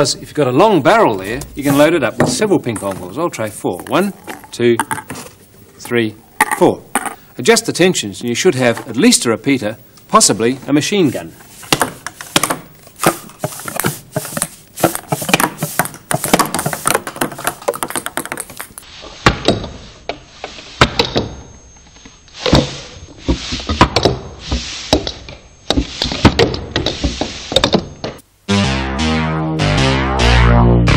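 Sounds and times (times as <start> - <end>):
balls clattering and bouncing: 0.0 - 7.4, 10.6 - 28.2.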